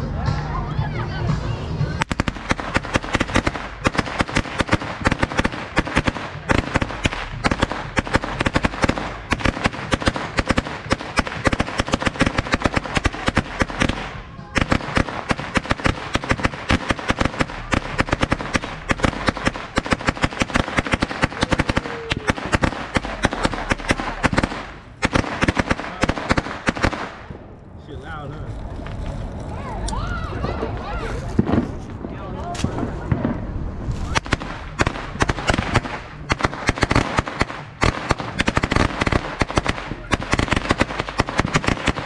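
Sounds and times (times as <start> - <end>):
firecrackers crackling: 1.9 - 42.0.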